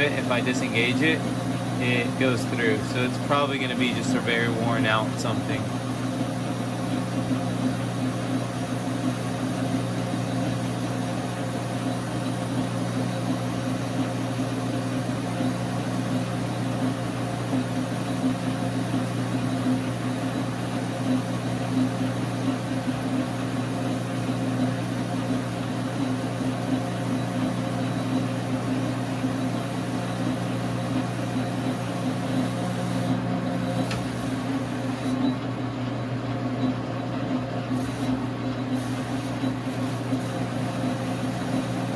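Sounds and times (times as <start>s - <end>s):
lathe motor humming: 0.0s - 41.9s.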